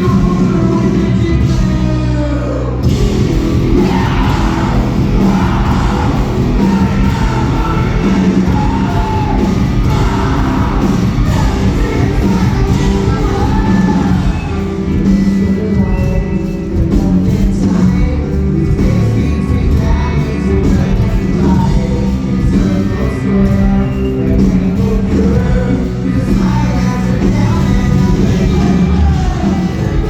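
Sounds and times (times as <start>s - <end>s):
person singing: 0.0s - 30.0s
rock band playing live: 0.0s - 30.0s.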